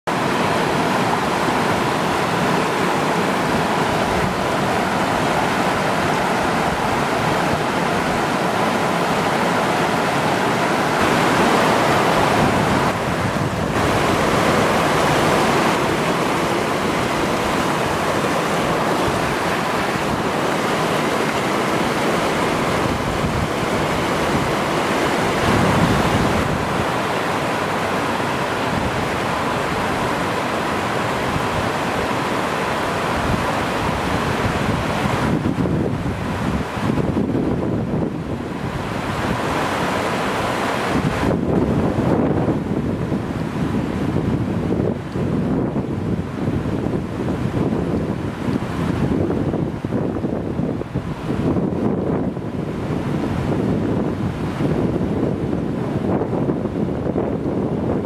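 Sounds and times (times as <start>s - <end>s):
stream rushing over rocks: 0.1s - 58.0s.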